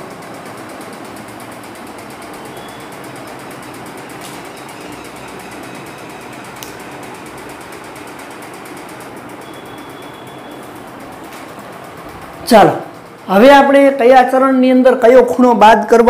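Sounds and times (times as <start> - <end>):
mechanical whirring hum and hiss: 0.0 - 16.0.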